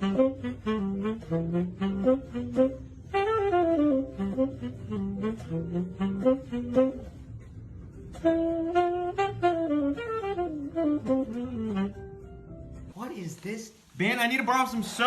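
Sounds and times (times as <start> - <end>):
solo saxophone jazzy melody: 0.0 - 13.0.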